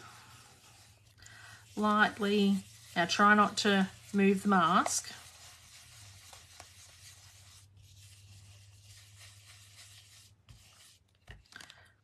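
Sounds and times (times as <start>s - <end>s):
brush rubbing on paper: 0.0s - 11.2s.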